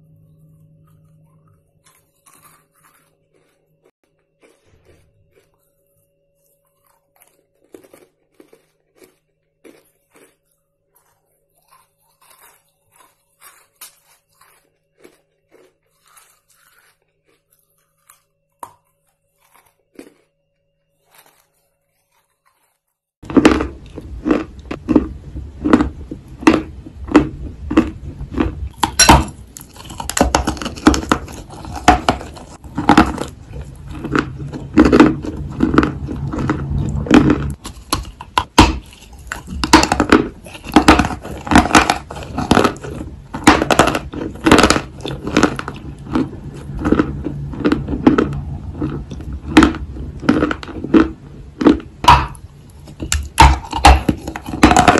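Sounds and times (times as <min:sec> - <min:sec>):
chalk being bitten and chewed: 0:00.0 - 0:54.9.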